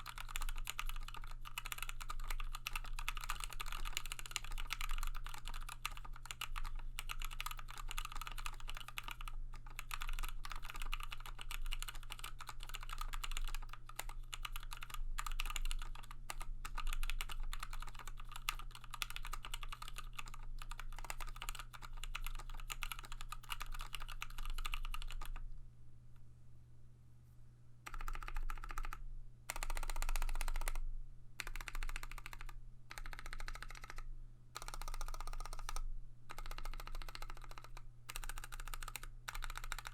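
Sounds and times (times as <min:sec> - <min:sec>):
mechanical keyboard typing: 0:00.0 - 0:25.4, 0:27.9 - 0:30.8, 0:31.4 - 0:39.9.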